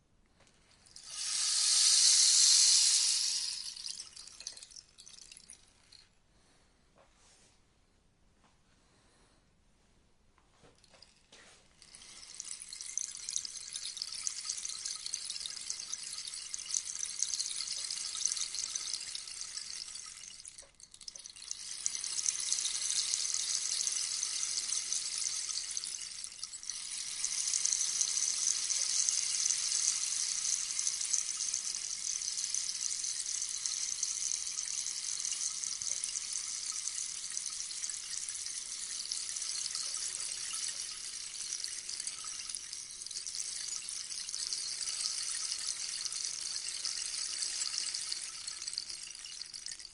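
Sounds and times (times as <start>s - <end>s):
rainstick pellets trickling: 0.4s - 6.0s, 10.8s - 49.9s.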